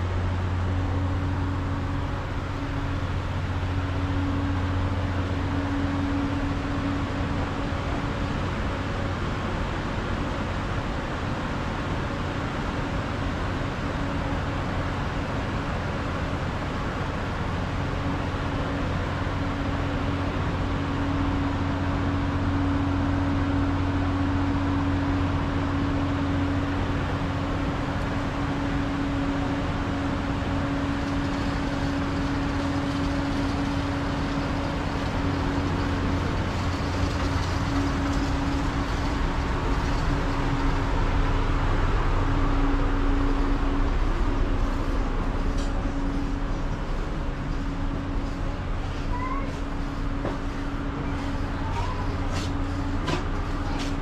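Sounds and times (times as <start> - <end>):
ferry machinery hum: 0.0 - 54.0.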